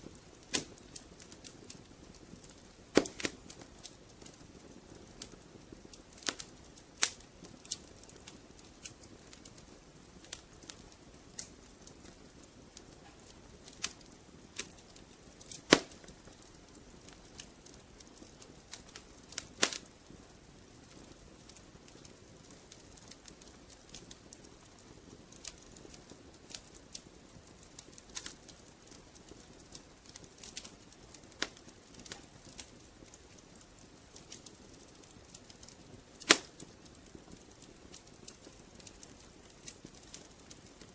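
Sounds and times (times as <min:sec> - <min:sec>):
wood fire crackling: 0:00.0 - 0:40.9
loud fire pops: 0:00.1 - 0:40.9.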